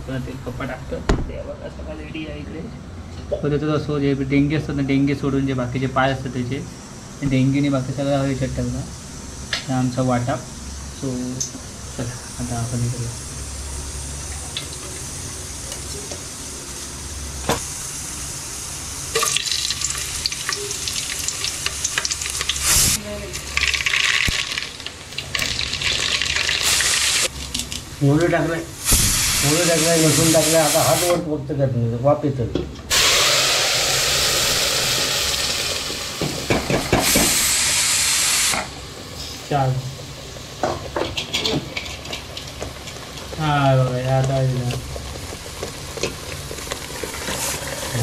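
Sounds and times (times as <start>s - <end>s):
hot oil frying in a pot: 4.7s - 31.2s, 32.9s - 48.0s.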